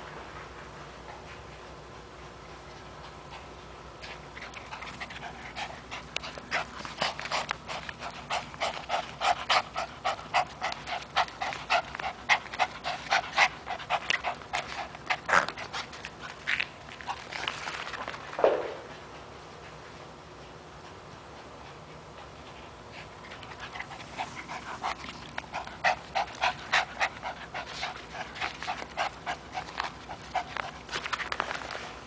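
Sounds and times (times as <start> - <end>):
dog panting quickly: 2.7 - 16.3, 18.9 - 31.2.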